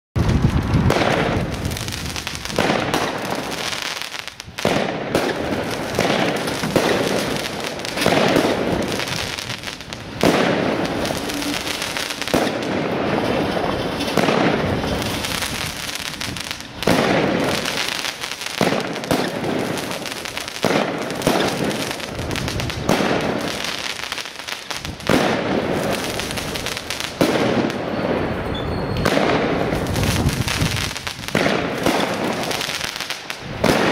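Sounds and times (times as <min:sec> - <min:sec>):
firework crackling: 0:00.2 - 0:33.9
loud firework shots: 0:00.2 - 0:33.9.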